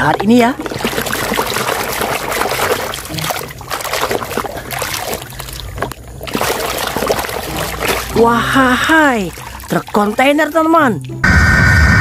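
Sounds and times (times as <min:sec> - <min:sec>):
water sloshing in a tub: 0:00.0 - 0:11.2.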